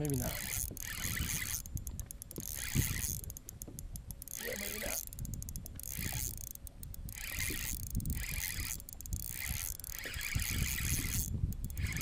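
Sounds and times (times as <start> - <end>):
fishing reel cranking: 0.0 - 12.0.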